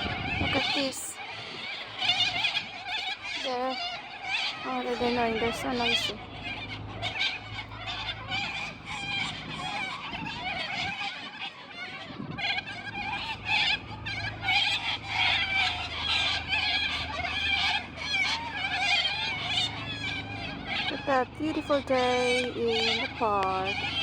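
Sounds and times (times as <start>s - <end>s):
cockatoos calling: 0.0s - 24.0s
low steady hum: 0.0s - 24.0s.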